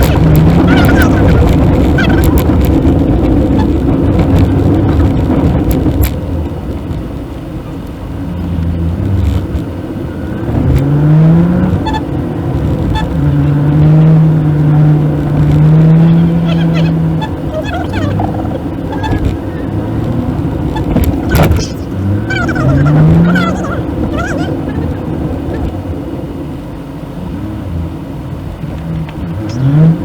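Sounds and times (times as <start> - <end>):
car engine: 0.0 - 30.0
road noise: 0.0 - 30.0.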